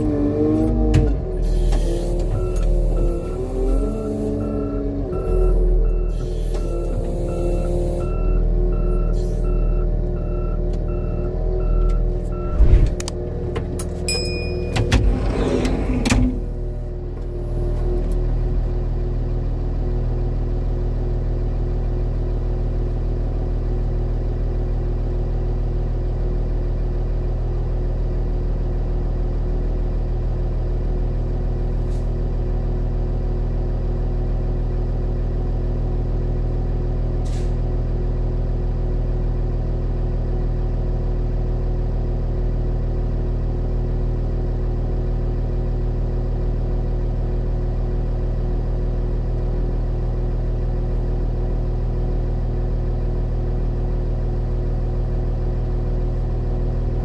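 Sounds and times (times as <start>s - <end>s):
diesel engine running steadily: 0.0s - 57.0s.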